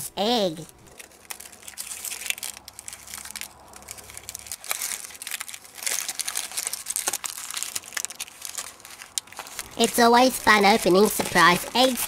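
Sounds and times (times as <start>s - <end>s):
foil wrapper crinkling and tearing: 0.8s - 12.0s.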